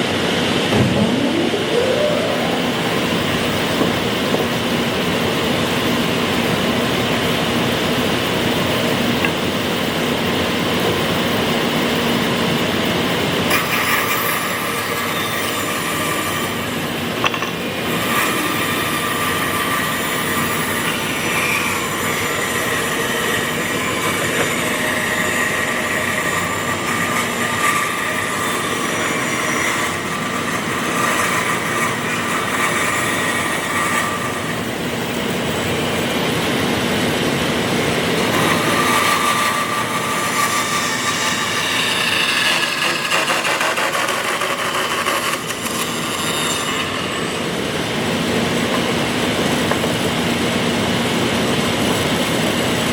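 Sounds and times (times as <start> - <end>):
woodworking machine whirring: 0.0 - 52.9.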